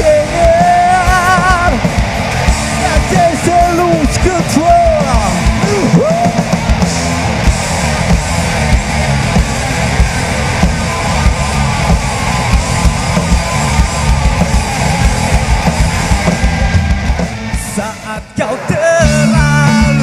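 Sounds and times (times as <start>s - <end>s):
drum kit beat: 0.0s - 20.0s
electric guitar: 0.0s - 20.0s.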